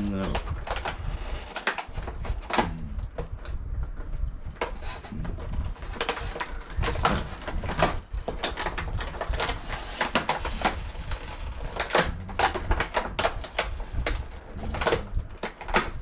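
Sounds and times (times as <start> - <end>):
packaging being handled: 0.0 - 16.0.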